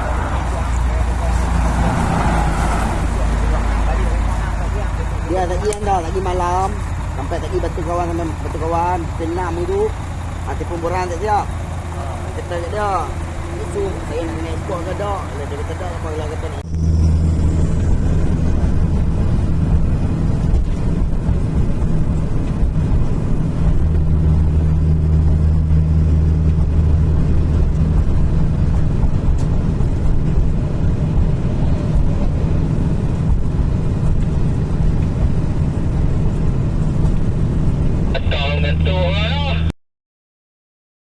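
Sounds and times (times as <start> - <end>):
diesel truck engine drone: 0.0 - 39.8.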